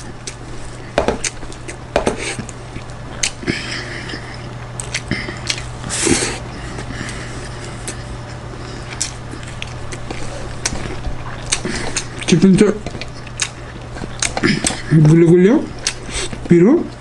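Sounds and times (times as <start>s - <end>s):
steady low hum: 0.0s - 17.0s
person chewing with lip smacks: 0.1s - 16.5s.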